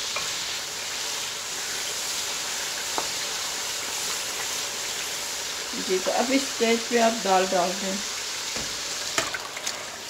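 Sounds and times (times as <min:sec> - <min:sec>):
masala sizzling in hot oil: 0:00.0 - 0:10.0.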